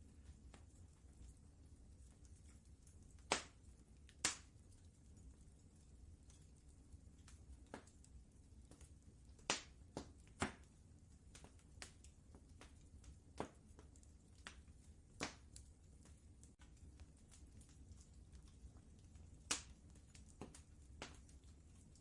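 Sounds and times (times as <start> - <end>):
faint low rumble: 0.0 - 22.0
wood fire crackling and popping: 0.0 - 22.0.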